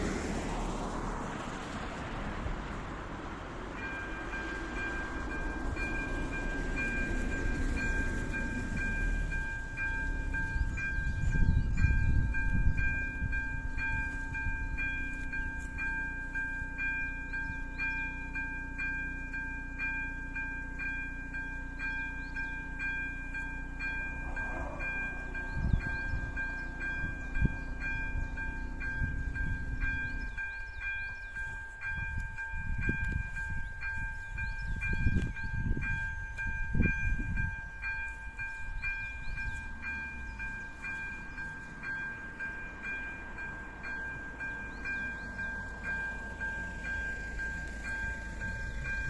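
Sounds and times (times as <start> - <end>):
low rumbles: 0.0 - 49.0
level crossing bell ringing: 3.8 - 49.0.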